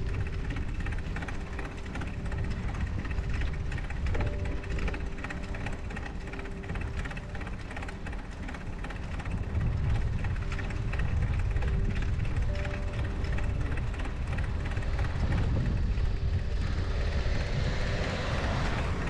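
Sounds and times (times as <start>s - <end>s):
bicycle rattling in snow: 0.0s - 19.0s
wind rumbling on microphone: 0.0s - 19.0s.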